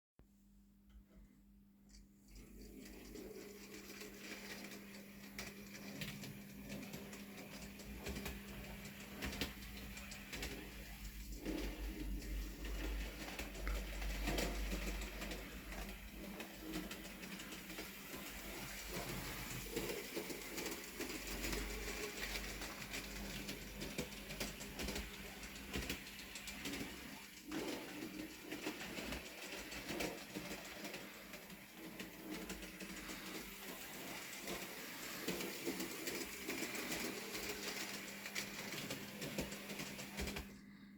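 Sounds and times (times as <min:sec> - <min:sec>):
small clicks from wheels on rails: 0:01.9 - 0:40.7
model train motor hum: 0:02.3 - 0:40.5.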